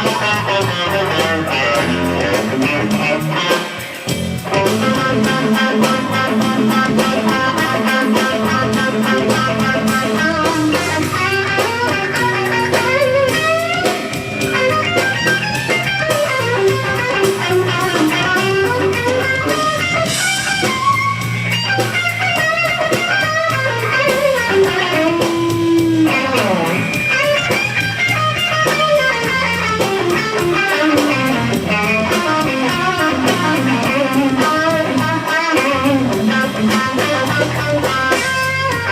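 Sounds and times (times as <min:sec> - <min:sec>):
bass guitar: 0:00.0 - 0:38.9
drums: 0:00.0 - 0:38.9
electric blues guitar solo: 0:00.0 - 0:38.9.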